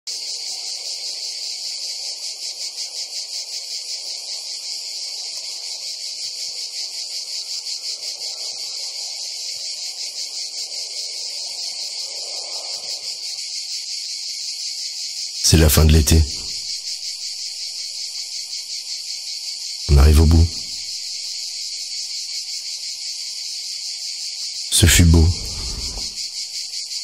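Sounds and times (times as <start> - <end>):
insects buzzing: 0.1 - 27.0.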